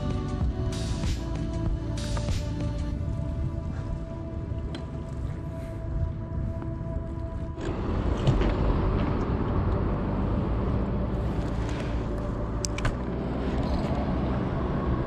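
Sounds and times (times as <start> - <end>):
traffic rumble on bridge: 0.0 - 15.0.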